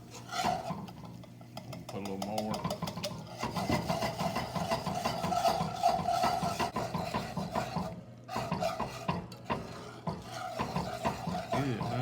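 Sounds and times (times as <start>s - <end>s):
whisk scraping a skillet: 0.0s - 12.0s.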